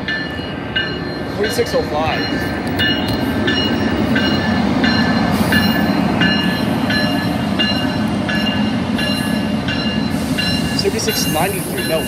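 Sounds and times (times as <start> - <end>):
locomotive bell ringing: 0.0 - 12.0
train rumbling: 0.0 - 12.0.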